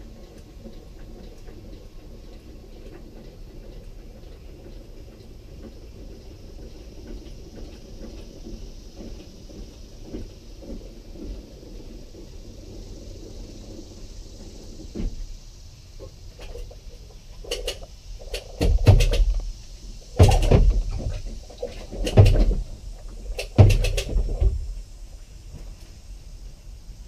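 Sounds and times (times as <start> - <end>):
hollow clunks through hull: 0.0 - 15.3, 16.0 - 24.8.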